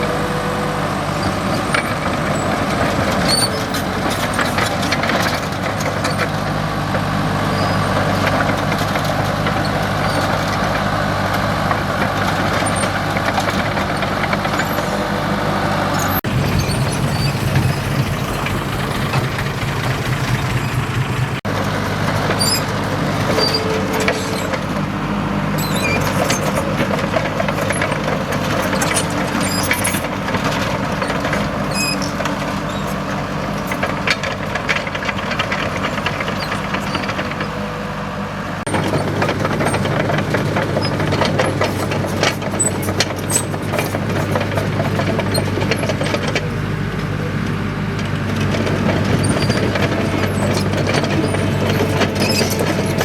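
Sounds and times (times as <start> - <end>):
steel tracks rattling and squeaking: 0.0 - 47.4, 48.1 - 53.0
bulldozer diesel engine: 0.0 - 53.0.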